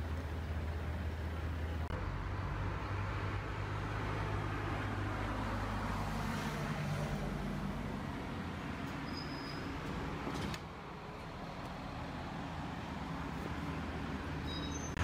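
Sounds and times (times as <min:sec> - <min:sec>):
low rumble outdoors: 0:00.0 - 0:15.0.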